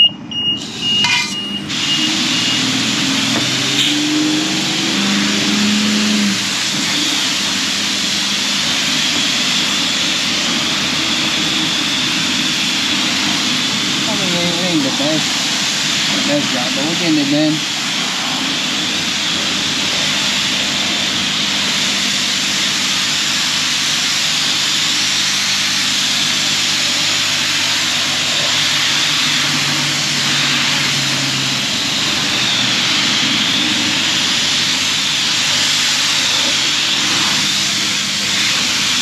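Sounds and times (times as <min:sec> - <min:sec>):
pressure washer spraying: 0:00.6 - 0:39.0.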